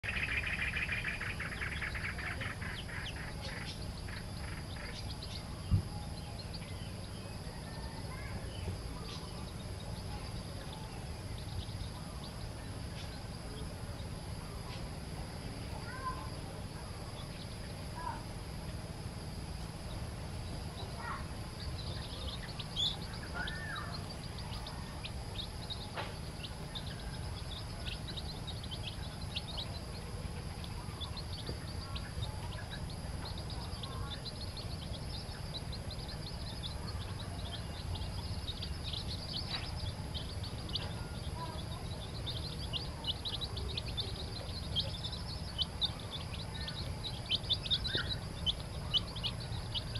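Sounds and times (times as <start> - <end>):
chicks peeping: 0.0 - 49.9
low background noise: 0.0 - 49.9.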